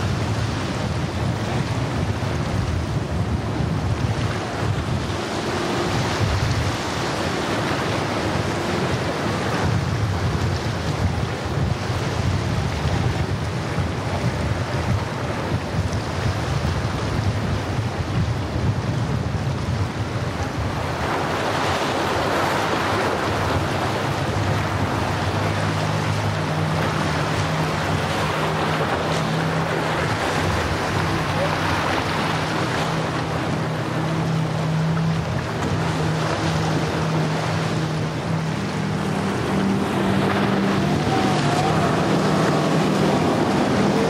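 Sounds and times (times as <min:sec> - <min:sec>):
boat engine drone: 0:00.0 - 0:44.0
water wash rushing: 0:00.0 - 0:44.0
wind: 0:00.0 - 0:44.0.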